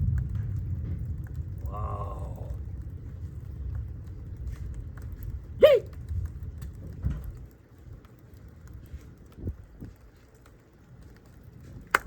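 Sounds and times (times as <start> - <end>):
low rumble of thunder: 0.0 - 10.1
light rain pattering: 0.0 - 12.0.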